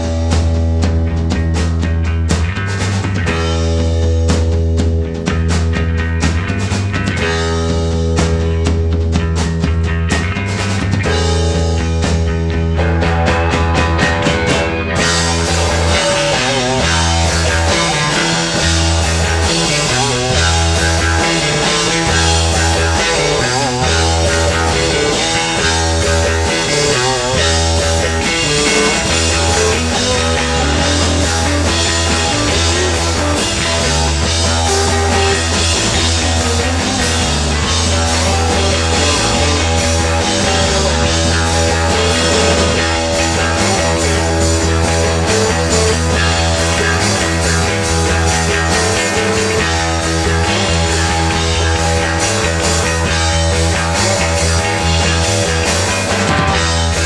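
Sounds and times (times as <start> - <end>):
pulsing bass line: 0.0 - 57.0
rock band playing live: 0.0 - 57.0.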